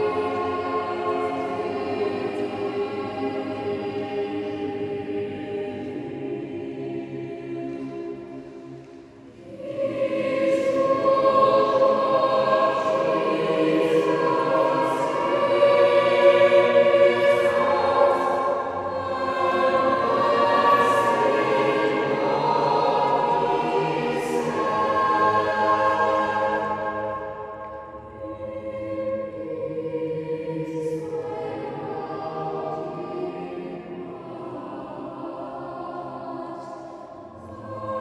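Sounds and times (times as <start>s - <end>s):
choir singing in a reverberant hall: 0.0s - 38.0s.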